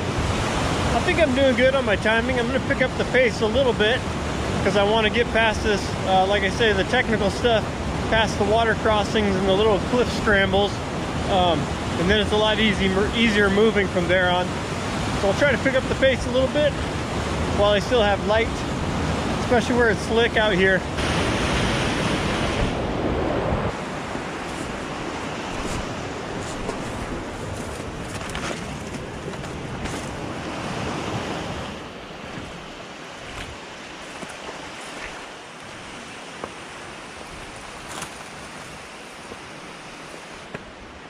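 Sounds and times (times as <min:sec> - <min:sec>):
rushing floodwater: 0:00.0 - 0:41.0.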